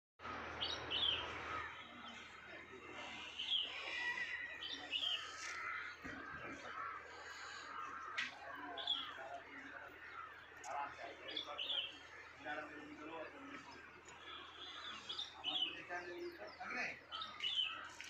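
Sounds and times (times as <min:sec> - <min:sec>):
birds chirping: 0:00.2 - 0:18.0
rural ambience: 0:00.2 - 0:18.0.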